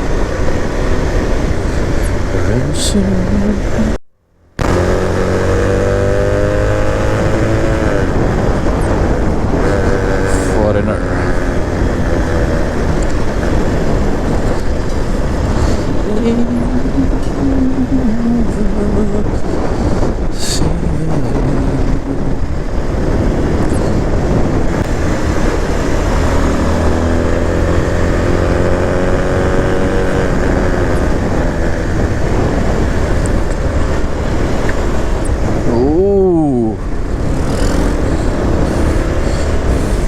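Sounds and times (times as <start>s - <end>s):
road rumble: 0.0s - 40.0s
vehicle engine: 0.0s - 40.0s.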